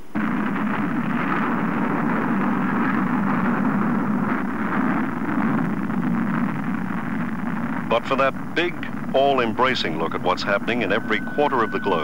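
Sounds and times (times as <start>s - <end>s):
rocket engine rumble: 0.0s - 12.0s.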